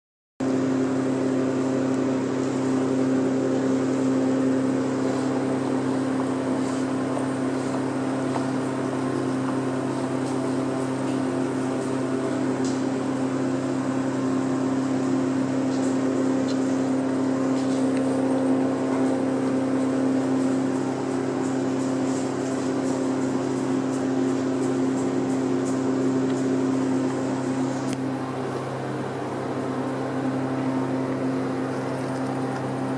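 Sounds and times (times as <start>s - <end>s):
steady motor hum: 0.4s - 32.9s.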